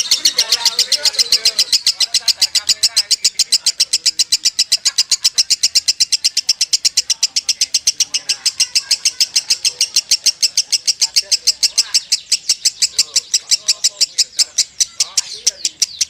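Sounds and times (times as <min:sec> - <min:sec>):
lovebird singing fast chatter: 0:00.0 - 0:16.0.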